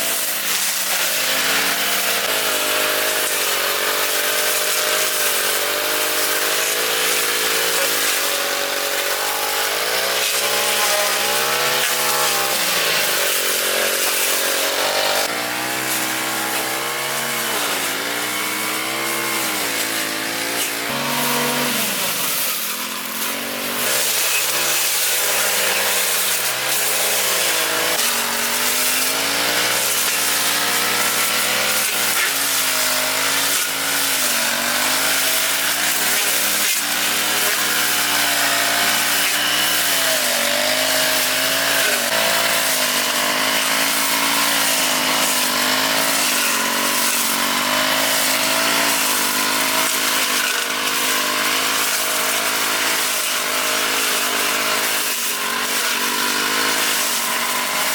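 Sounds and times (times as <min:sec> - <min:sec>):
grass cutter petrol engine running: 0:00.0 - 0:57.9.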